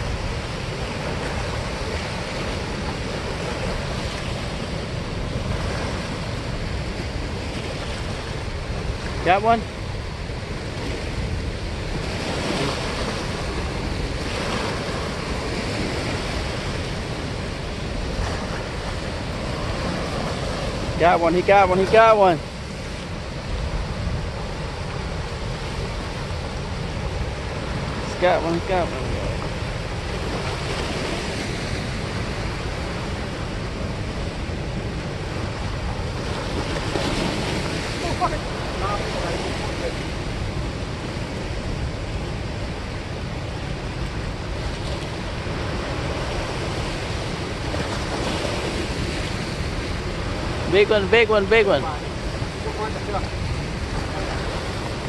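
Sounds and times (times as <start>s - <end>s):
water churning below spillway: 0.0s - 55.0s.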